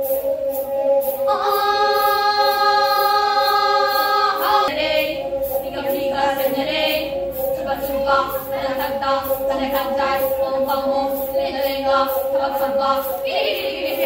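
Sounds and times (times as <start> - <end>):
bowed fiddles droning: 0.0 - 14.0
women singing together: 1.2 - 14.0.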